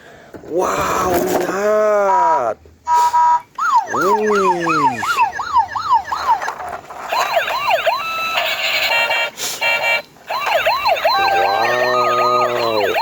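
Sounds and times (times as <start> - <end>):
toy police sirens wailing: 2.1 - 13.0.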